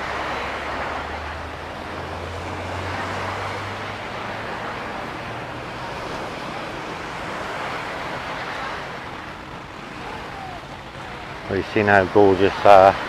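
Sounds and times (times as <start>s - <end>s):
low engine drone: 0.0s - 13.0s
surf washing on beach: 0.0s - 13.0s.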